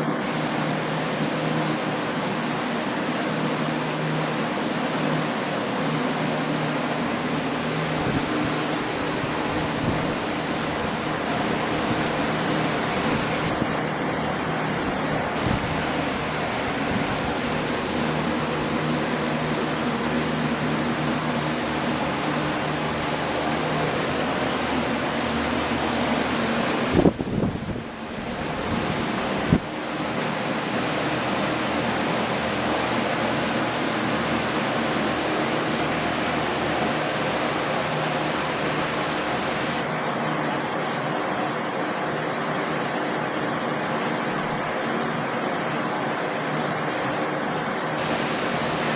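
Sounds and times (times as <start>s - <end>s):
drying fans whirring: 0.0s - 48.9s.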